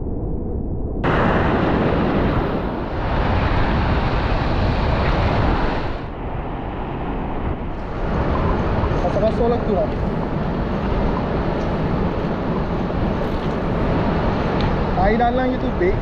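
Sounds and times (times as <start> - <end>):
wind buffeting microphone: 0.0 - 16.0
heavy surf washing: 1.0 - 16.0.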